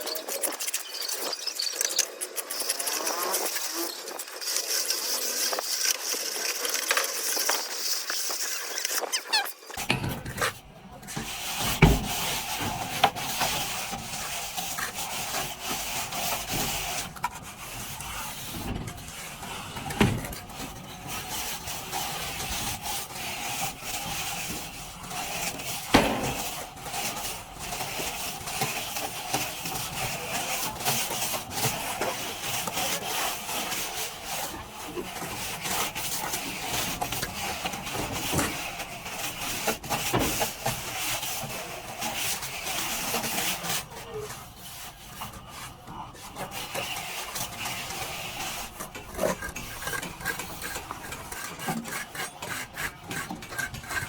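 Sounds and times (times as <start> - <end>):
trowel scraping plaster on wall: 0.0 - 54.0.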